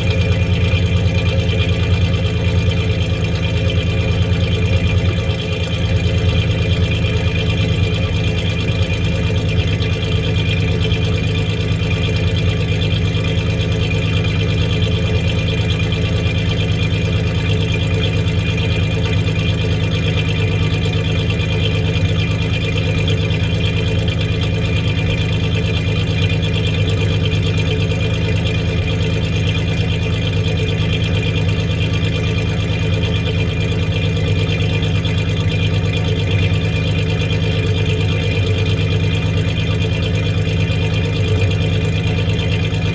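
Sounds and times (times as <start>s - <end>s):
misfiring engine idling: 0.0s - 42.9s.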